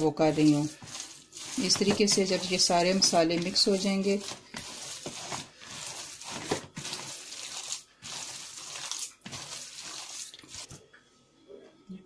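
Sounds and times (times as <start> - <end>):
hand squelching raw mince: 0.0 - 10.7.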